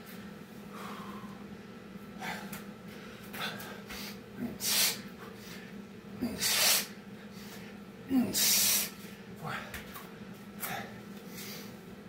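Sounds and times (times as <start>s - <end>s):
steady low hum: 0.0s - 12.0s
man breathing heavily: 0.6s - 9.9s, 10.6s - 11.8s.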